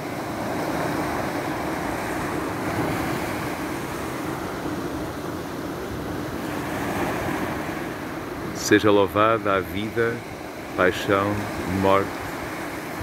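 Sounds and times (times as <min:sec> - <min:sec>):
small waves washing on beach: 0:00.0 - 0:13.0.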